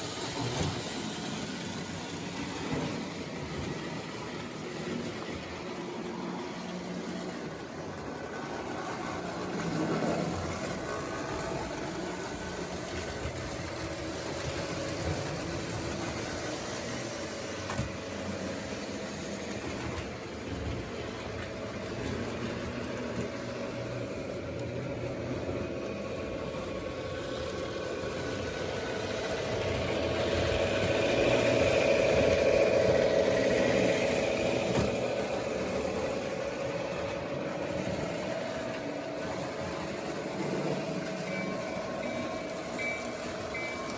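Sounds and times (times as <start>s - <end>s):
model train motors humming: 0.0s - 43.9s
train wheels rumbling on rails: 0.0s - 43.9s.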